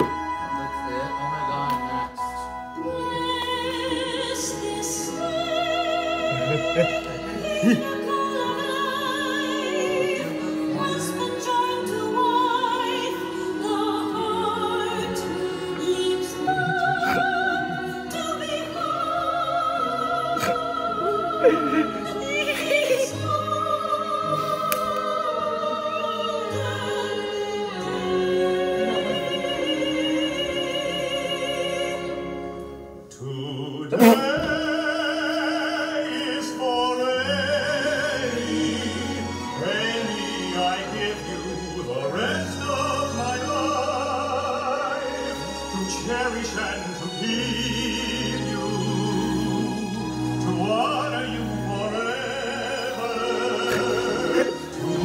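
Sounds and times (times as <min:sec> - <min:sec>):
operatic soprano singing: 0:00.0 - 0:55.0
orchestral accompaniment: 0:00.0 - 0:55.0.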